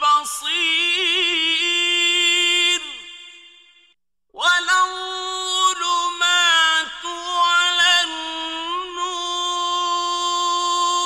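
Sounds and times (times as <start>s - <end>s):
person in melodic recitation: 0.0s - 3.0s, 4.4s - 11.0s.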